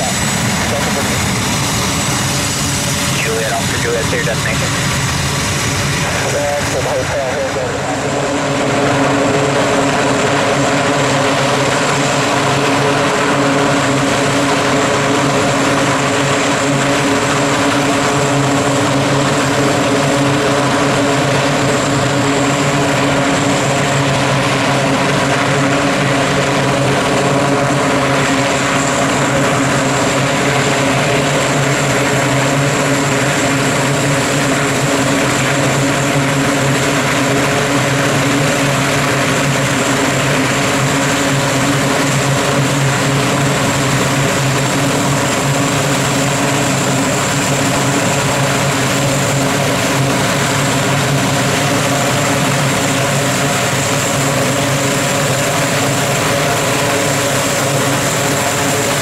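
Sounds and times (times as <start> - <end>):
turboprop engines humming: 0.0 - 59.0.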